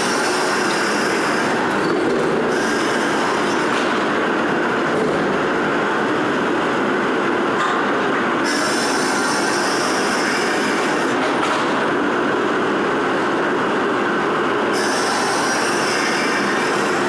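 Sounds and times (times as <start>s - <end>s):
high machine whine: 0.0s - 17.0s.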